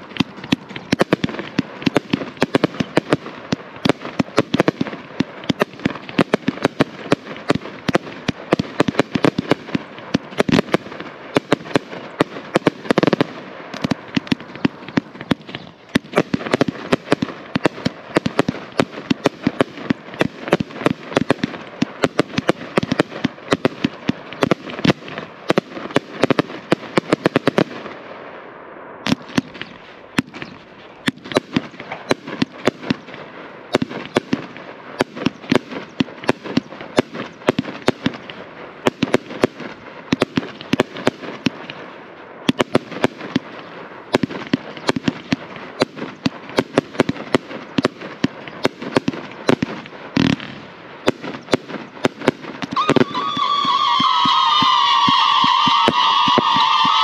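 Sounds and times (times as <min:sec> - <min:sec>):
firework cake barrage: 0:00.0 - 0:57.0.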